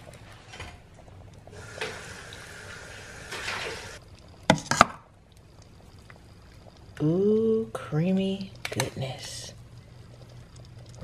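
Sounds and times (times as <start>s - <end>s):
steady hiss: 1.4s - 11.0s.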